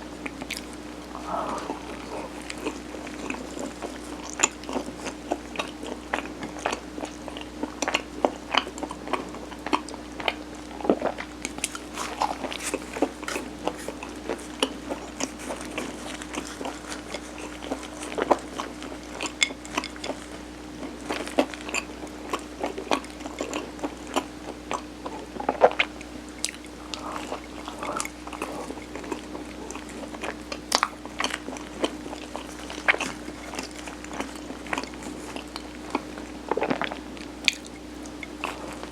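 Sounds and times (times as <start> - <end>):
steady low hum: 0.0 - 19.3, 23.2 - 38.9
wet chewing and mouth clicks: 0.3 - 38.9.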